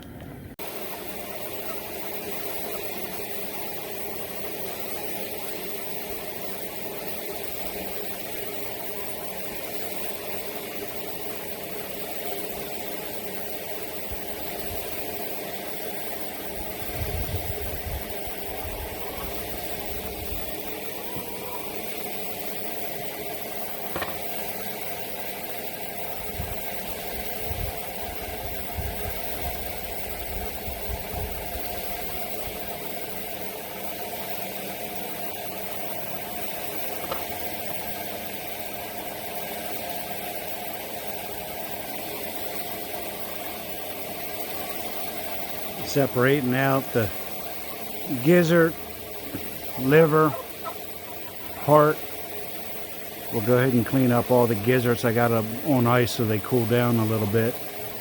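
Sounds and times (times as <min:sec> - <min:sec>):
machine motor running: 0:00.6 - 0:58.0.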